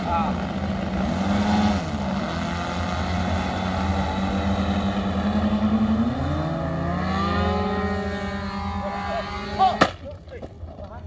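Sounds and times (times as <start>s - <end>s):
model plane engines running: 0.0s - 9.8s.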